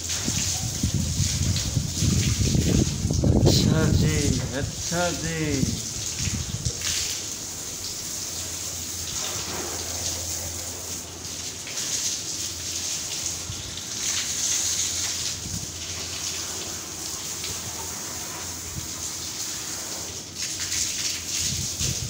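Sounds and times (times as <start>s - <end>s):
hose water splashing: 0.0s - 22.0s.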